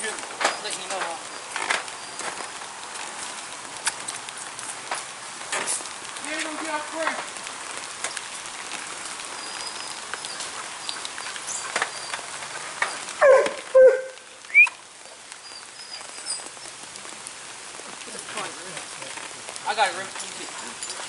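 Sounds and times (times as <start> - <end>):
rain pattering on plastic tarp: 0.0 - 21.0.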